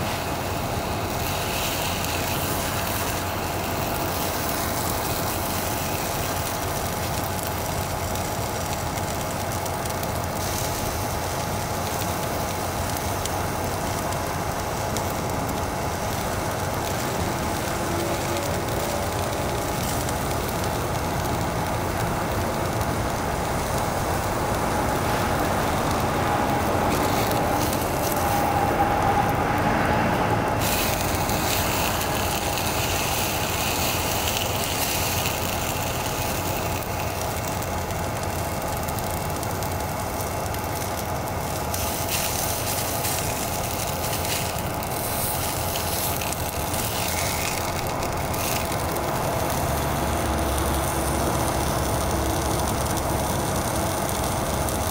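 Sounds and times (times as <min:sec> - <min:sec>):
food sizzling in a pan: 0:00.0 - 0:54.9
gas stove burner hissing: 0:00.0 - 0:54.9.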